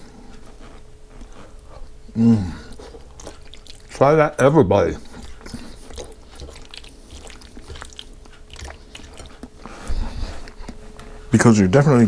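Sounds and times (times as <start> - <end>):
man chewing: 0.0 - 11.2.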